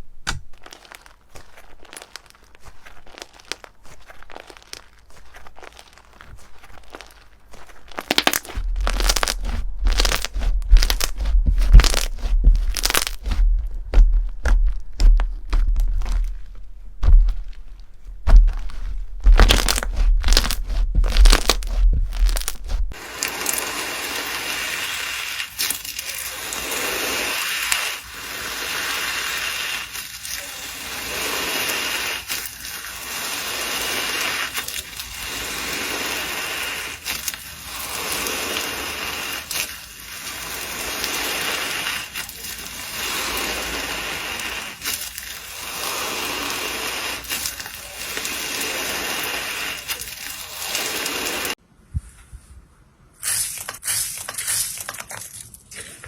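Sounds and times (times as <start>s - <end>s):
slime crackling by hand: 0.2s - 51.6s.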